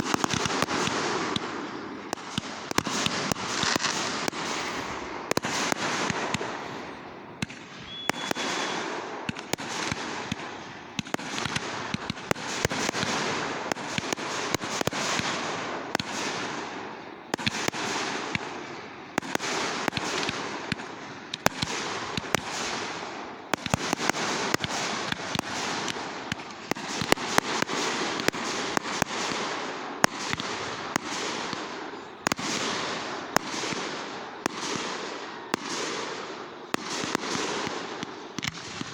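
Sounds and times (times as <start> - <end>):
sharp firework pops: 0.0 - 16.6, 19.2 - 38.9
fireworks crackling and hissing: 0.0 - 38.9.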